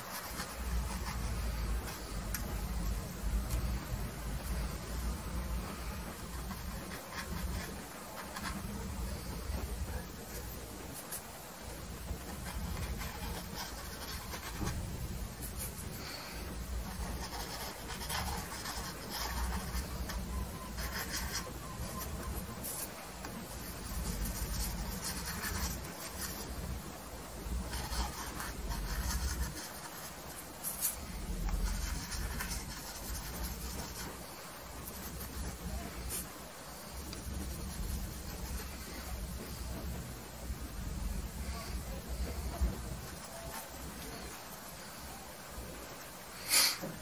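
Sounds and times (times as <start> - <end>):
paintbrush rubbing on canvas: 0.0 - 47.0.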